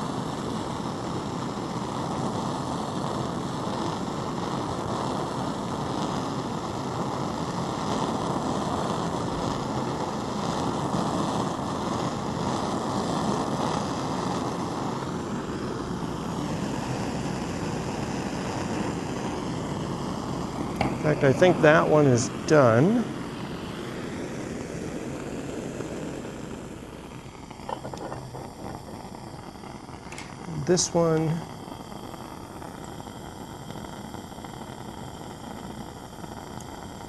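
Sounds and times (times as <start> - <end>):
gas torch flame rushing: 0.0 - 37.0.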